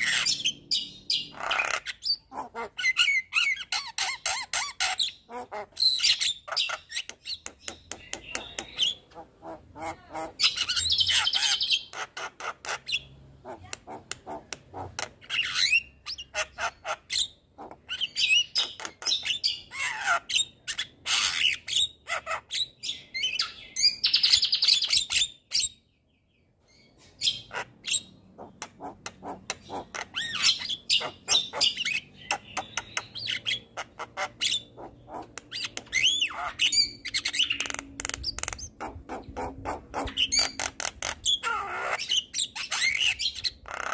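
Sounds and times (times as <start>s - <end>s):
bird singing: 0.0s - 43.9s.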